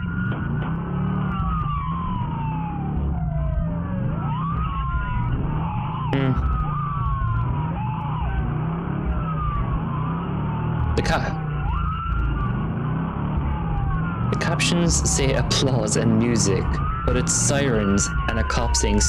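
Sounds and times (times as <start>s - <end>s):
police sirens wailing: 0.0s - 19.0s
sharp siren burst: 0.0s - 19.0s.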